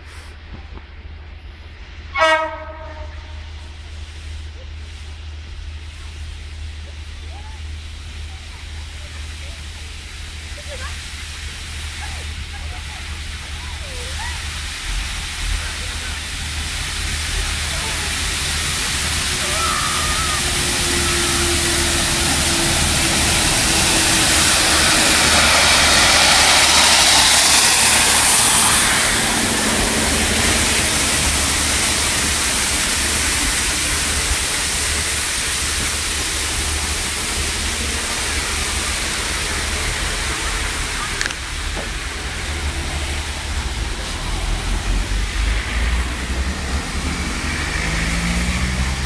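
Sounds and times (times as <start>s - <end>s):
loud hiss: 0.0s - 49.0s
train engine drone: 0.0s - 49.0s.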